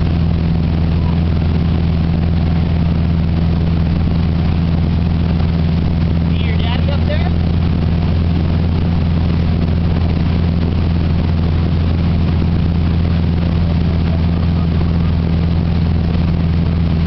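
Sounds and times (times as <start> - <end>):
boat engine low drone: 0.0 - 17.0.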